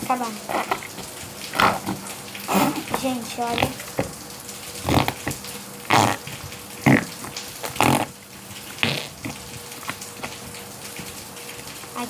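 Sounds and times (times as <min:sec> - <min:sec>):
slime squelching: 0:00.1 - 0:12.0.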